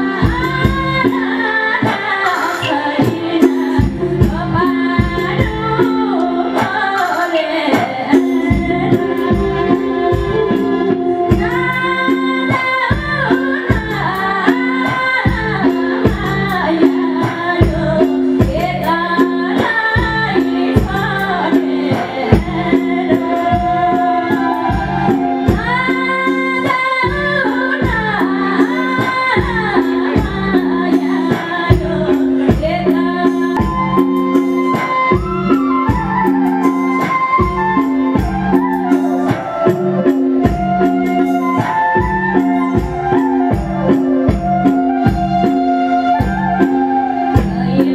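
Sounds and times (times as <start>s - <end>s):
live band playing: 0.0s - 47.9s
steady percussion beat: 0.0s - 47.9s
woman singing into microphone: 0.0s - 47.9s.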